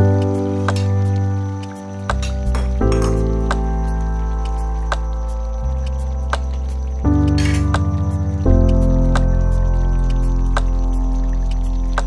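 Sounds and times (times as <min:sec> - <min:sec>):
music with sustained chords: 0:00.0 - 0:12.0.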